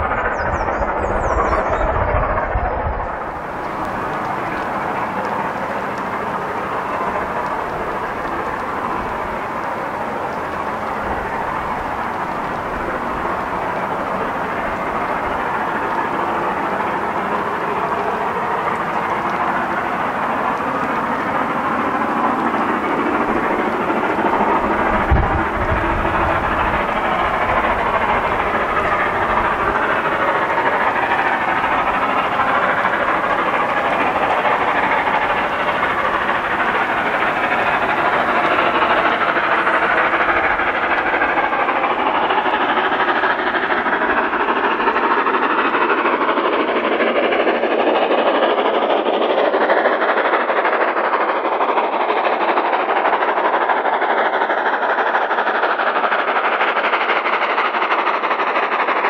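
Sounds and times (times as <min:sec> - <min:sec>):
steam locomotive exhaust chatter: 0:00.0 - 0:59.0.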